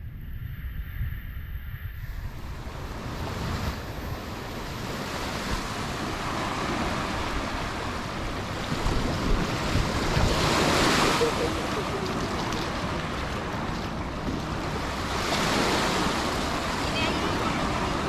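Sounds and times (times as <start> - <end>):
wind buffeting microphone: 0.0 - 18.0
waves washing on beach: 2.2 - 18.0.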